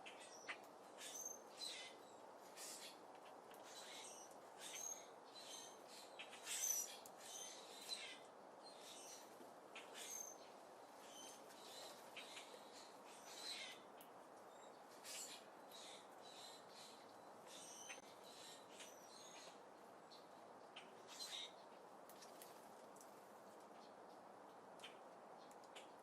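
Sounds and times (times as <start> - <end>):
background hiss: 0.0 - 26.0
small birds chirping: 0.0 - 26.0.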